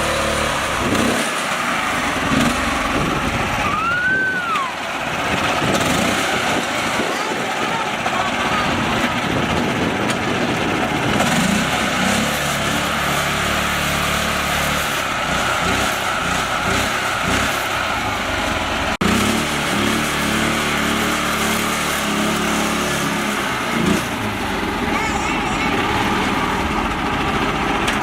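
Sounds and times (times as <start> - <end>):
mini tractor engine running: 0.0 - 28.0.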